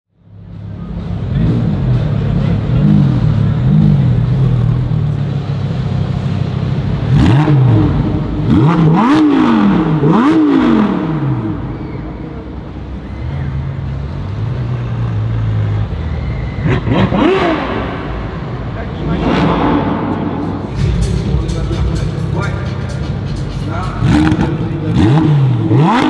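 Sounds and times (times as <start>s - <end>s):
car engine revving: 0.2s - 26.0s.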